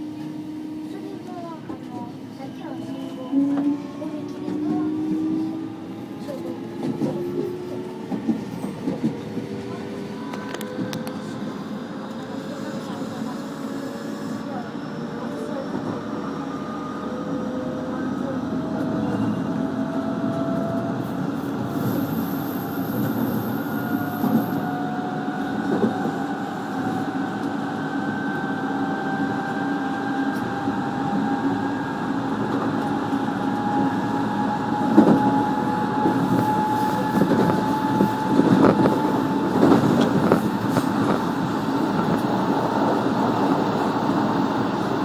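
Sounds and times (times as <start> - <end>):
train rumble: 0.0 - 45.0.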